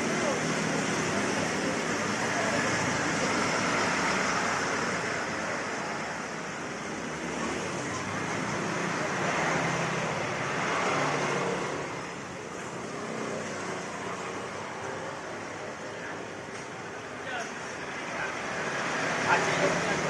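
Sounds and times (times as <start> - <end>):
passing road traffic: 0.0 - 20.0.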